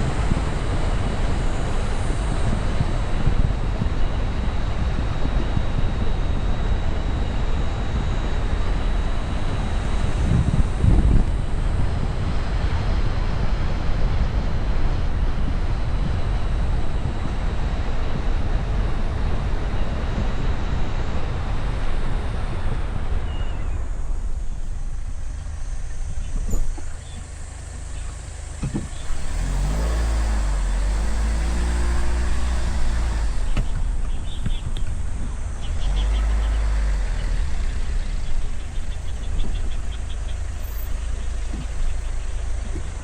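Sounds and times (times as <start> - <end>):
vehicle engine humming: 0.0 - 43.0
wind rushing over microphone: 0.0 - 43.0.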